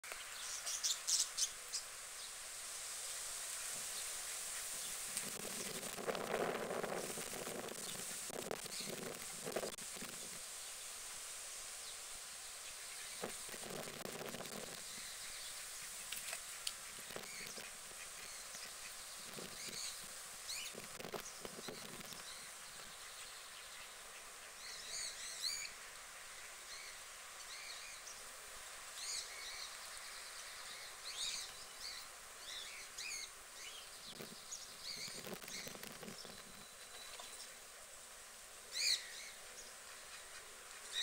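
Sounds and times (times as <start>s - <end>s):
background hiss: 0.0s - 41.0s
small birds chirping: 0.1s - 2.4s, 3.1s - 37.7s, 38.6s - 41.0s.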